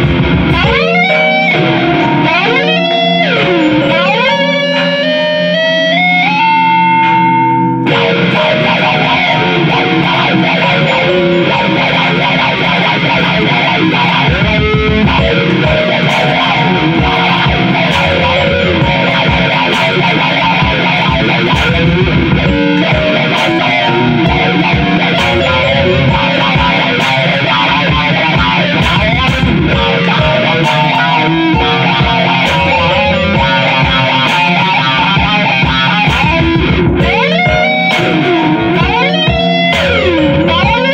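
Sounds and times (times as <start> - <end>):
drum hits: 0.0 - 2.6, 7.0 - 40.9
distorted electric guitar: 0.0 - 40.9.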